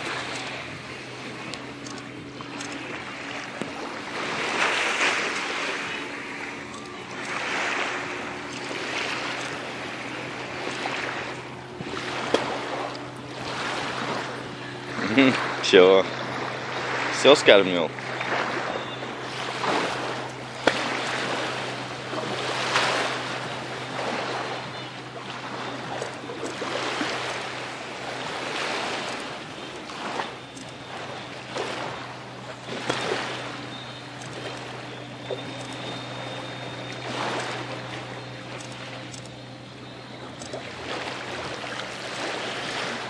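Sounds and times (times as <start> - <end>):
shallow water lapping: 0.0 - 43.0.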